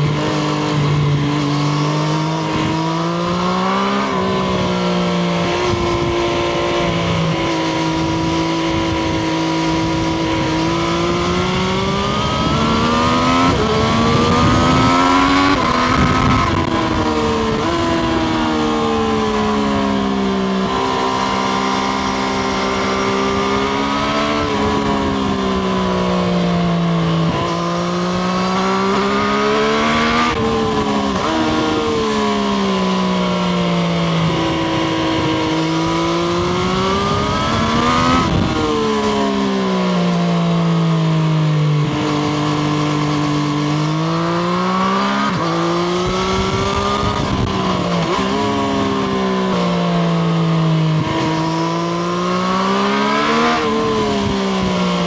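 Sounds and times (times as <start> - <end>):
wind noise: 0.0 - 40.6, 41.7 - 55.0
motorcycle engine revving: 0.0 - 55.0.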